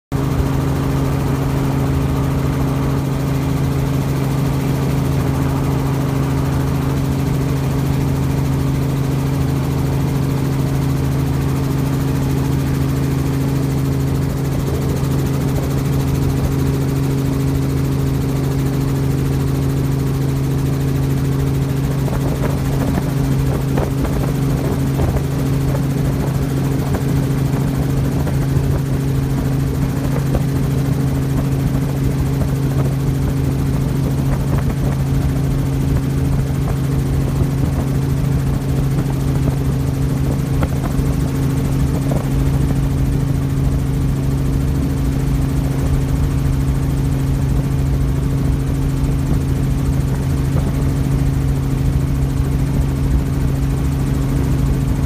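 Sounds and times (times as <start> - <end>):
helicopter engine and rotor drone: 0.1 - 55.0.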